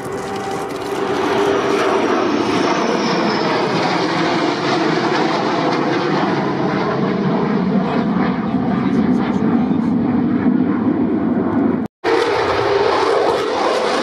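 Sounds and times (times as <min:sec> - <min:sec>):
fighter jets flying overhead: 0:00.0 - 0:14.0
high-pitched jet whine: 0:00.0 - 0:14.0.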